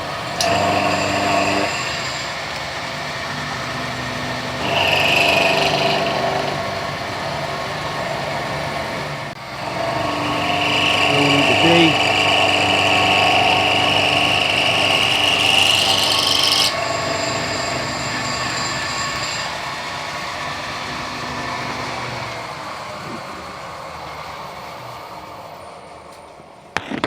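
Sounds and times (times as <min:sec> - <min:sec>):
machine tool cutting metal: 0:00.0 - 0:22.2.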